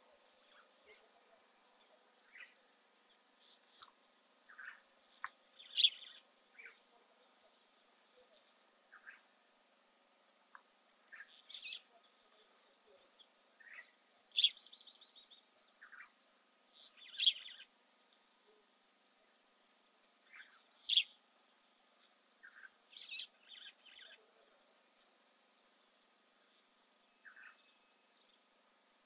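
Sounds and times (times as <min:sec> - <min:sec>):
birds chirping: 0:00.0 - 0:09.4, 0:10.5 - 0:19.4, 0:20.2 - 0:28.6.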